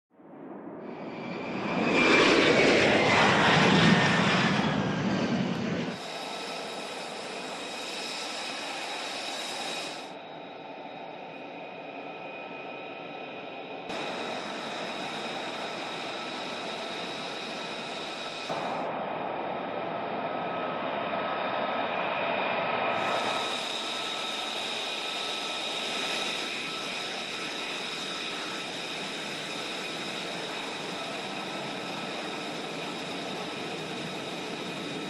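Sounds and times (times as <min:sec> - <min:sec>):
jet fighter roaring past: 0:00.2 - 0:10.9, 0:13.3 - 0:35.0.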